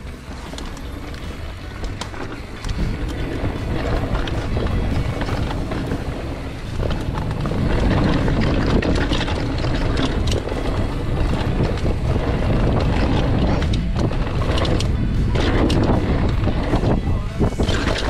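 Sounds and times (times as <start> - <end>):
bike chain and frame rattling: 0.0 - 18.0
tyres on dirt: 0.0 - 18.0
wind buffeting microphone: 0.8 - 18.0.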